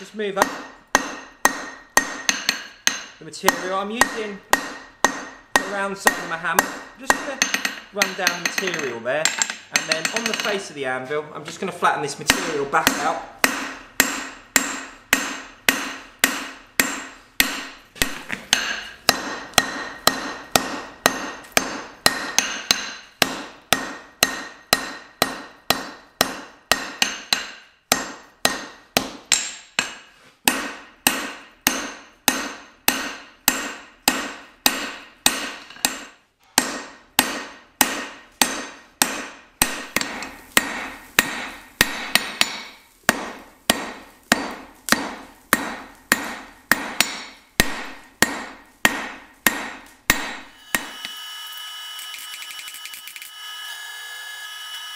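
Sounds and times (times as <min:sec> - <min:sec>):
hammer striking steel on anvil: 0:00.4 - 0:10.7, 0:12.2 - 0:51.2.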